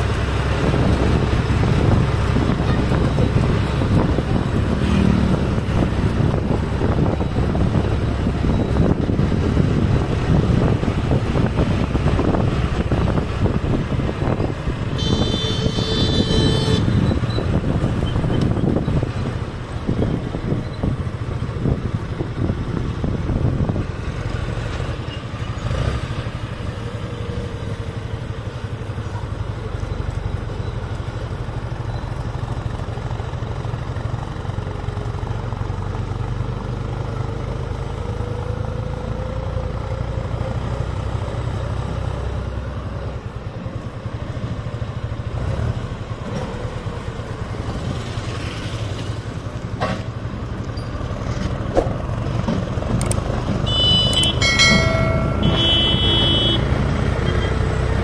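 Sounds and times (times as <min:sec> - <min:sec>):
road noise: 0:00.0 - 0:58.0
vehicle engines running: 0:00.0 - 0:58.0.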